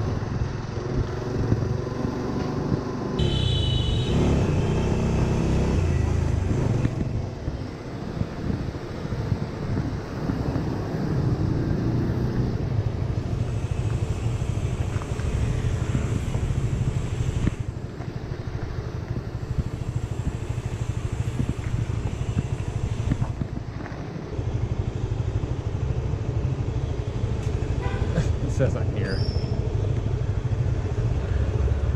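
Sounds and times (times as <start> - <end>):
motorbike engine rumble: 0.0 - 31.9.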